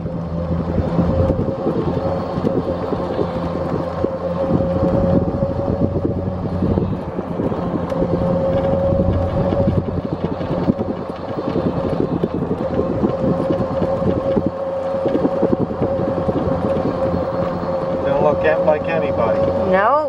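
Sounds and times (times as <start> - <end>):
steady hum: 0.0 - 20.0
vehicle moving slowly on road: 0.0 - 20.0.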